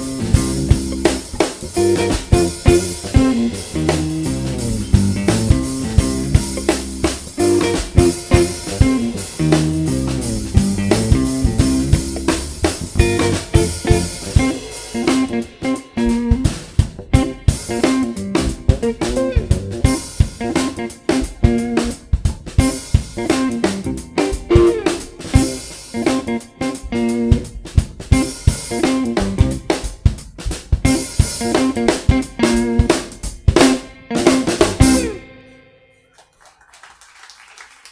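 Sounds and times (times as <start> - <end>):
drum kit with snare and rimshots: 0.0 - 35.4
electric bass: 0.0 - 35.5
electric guitar: 0.0 - 36.2.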